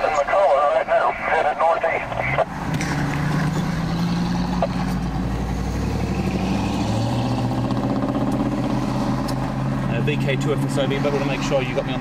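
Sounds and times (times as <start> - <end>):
car engines humming: 0.0 - 12.0
cars passing on wet road: 0.9 - 12.0.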